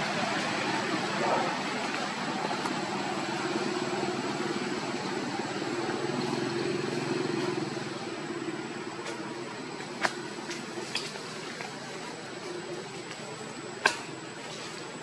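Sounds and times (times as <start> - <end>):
background hiss: 0.0 - 15.0
engine humming: 0.0 - 15.0.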